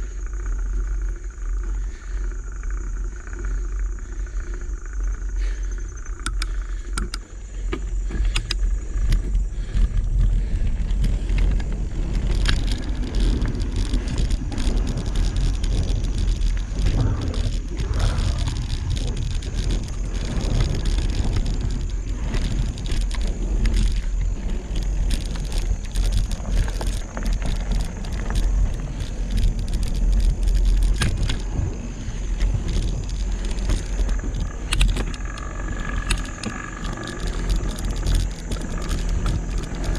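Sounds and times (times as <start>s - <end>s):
bike chain and frame rattling: 0.0s - 39.9s
steady low rumble: 0.0s - 39.9s.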